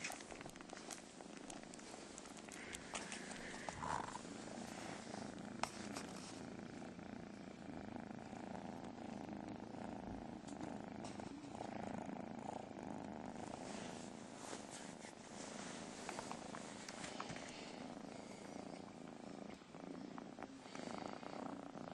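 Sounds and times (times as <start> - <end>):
cat purring: 0.0 - 21.9.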